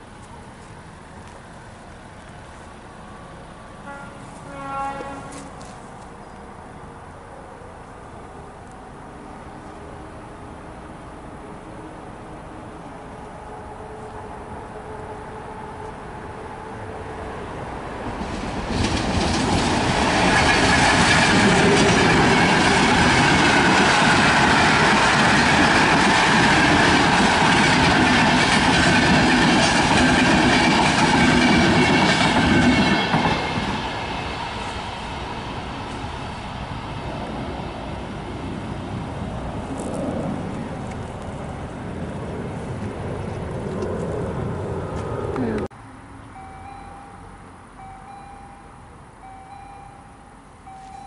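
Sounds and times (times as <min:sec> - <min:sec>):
train rumbling over rails: 0:00.0 - 0:45.7.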